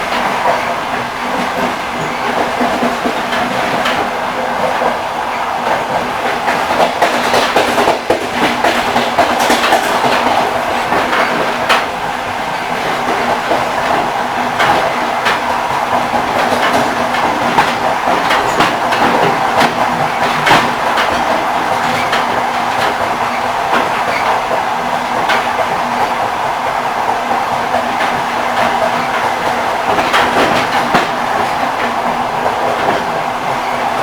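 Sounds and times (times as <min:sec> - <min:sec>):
train wheels clickety-clack: 0:00.0 - 0:34.0.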